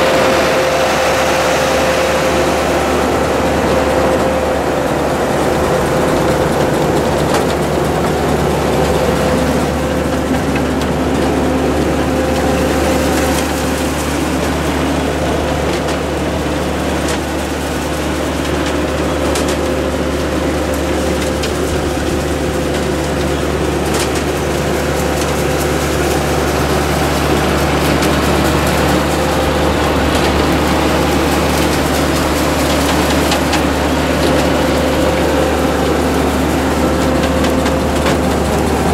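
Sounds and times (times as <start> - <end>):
harvester machinery whining: 0.0 - 38.9.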